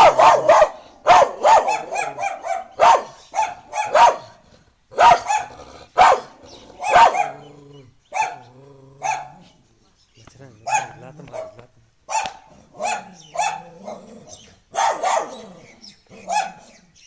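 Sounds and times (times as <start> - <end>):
dog barking: 0.0 - 7.5, 8.1 - 9.6, 10.6 - 14.1, 14.7 - 15.6, 16.2 - 16.7.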